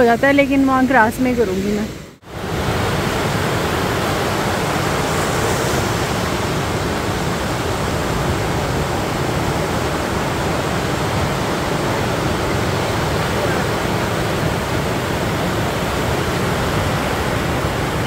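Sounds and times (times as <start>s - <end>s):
waves breaking on sand: 2.2s - 18.0s.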